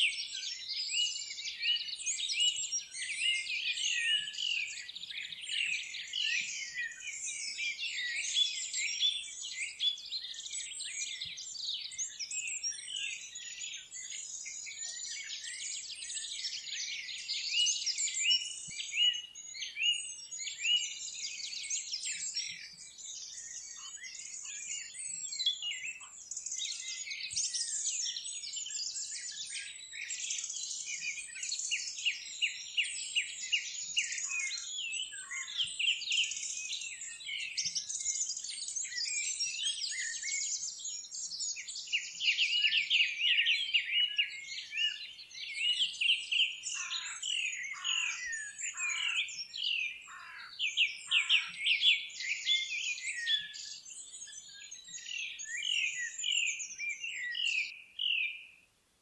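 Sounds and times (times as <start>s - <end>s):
chorus of birds singing: 0.0s - 58.8s.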